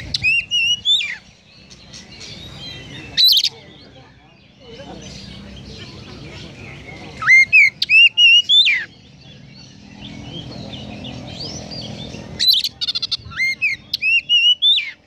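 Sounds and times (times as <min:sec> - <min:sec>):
bird singing whistled notes: 0:00.0 - 0:15.0
faint bird chirping: 0:00.0 - 0:15.0.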